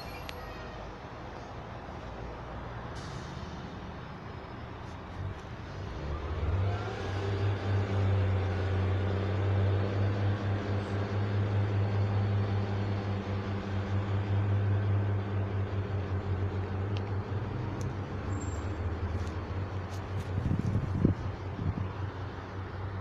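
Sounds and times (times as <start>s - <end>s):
diesel train engine pulling away: 0.0s - 23.0s.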